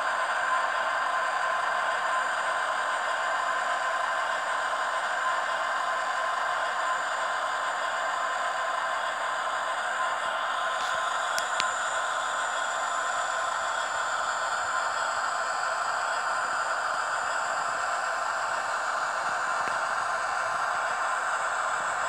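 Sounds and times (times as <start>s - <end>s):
electric locomotive hum: 0.0s - 22.0s.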